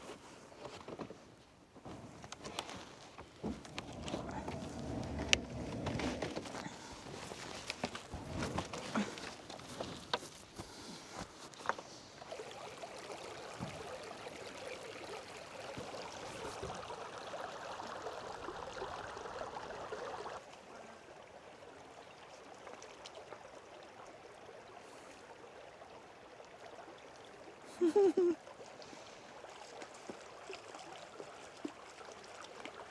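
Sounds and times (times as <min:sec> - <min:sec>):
creek water running: 0:01.8 - 0:32.9.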